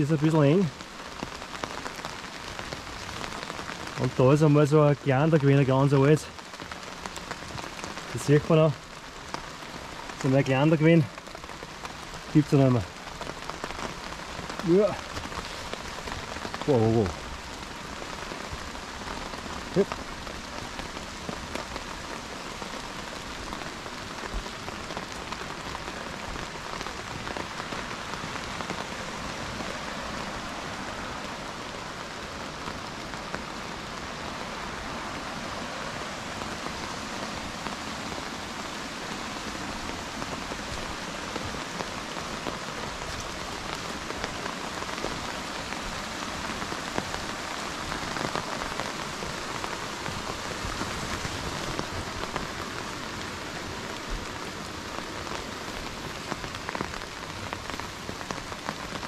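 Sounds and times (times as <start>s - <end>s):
raindrop ticks: 0.0s - 30.3s, 36.3s - 59.0s
steady rain: 0.0s - 59.0s.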